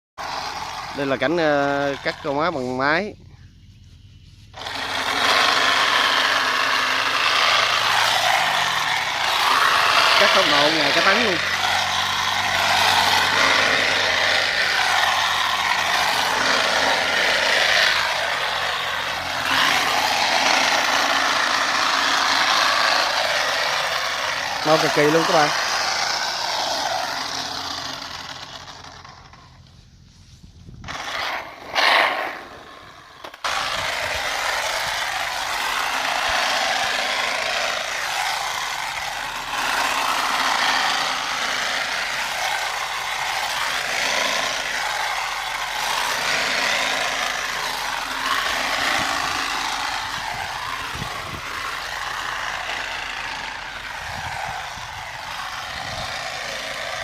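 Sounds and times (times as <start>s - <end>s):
small cutting machine engine: 0.2s - 30.0s, 30.7s - 57.0s.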